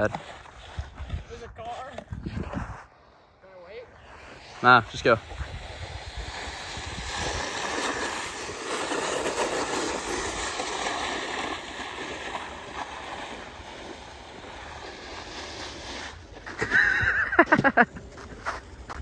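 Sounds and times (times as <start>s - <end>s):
snowboard scraping on icy snow: 0.0s - 19.0s.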